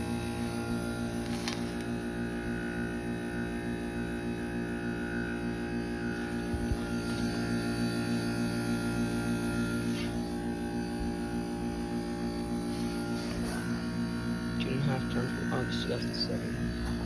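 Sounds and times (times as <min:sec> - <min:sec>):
heat pump unit humming drone: 0:00.0 - 0:17.0.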